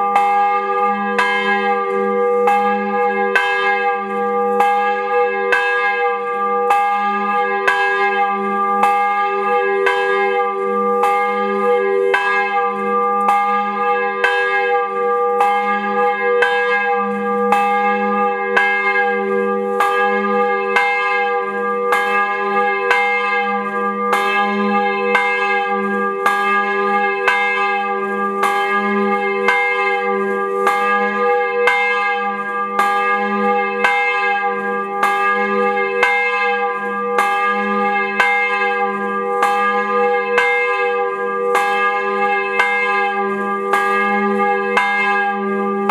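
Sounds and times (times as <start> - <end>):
church bell ringing: 0.0 - 45.9.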